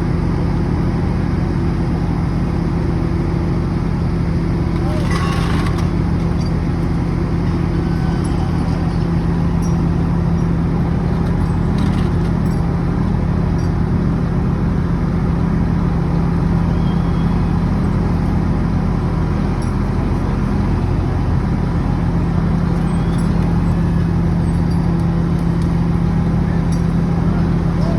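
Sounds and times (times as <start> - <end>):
large engine humming: 0.0 - 27.9.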